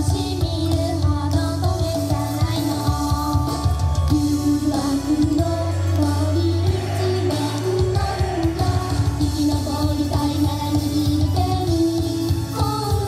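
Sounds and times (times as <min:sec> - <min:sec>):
pop song with female vocals: 0:00.0 - 0:13.0.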